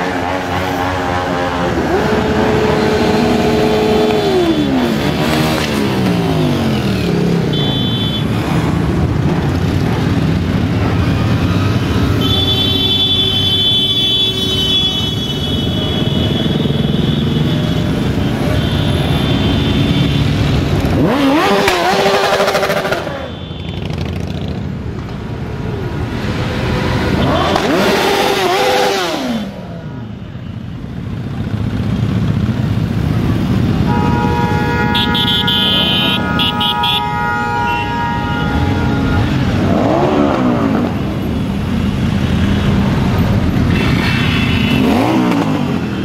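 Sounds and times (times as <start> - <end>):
motorcycles passing and revving: 0.0 - 46.0.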